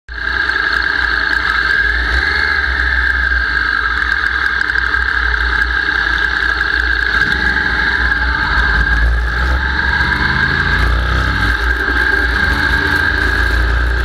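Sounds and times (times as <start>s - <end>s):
motorcycle engine running: 0.7s - 14.0s.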